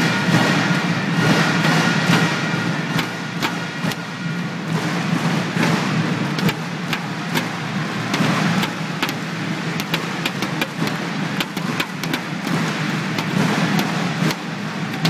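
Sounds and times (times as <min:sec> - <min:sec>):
rackets striking shuttlecocks: 0:01.2 - 0:15.0.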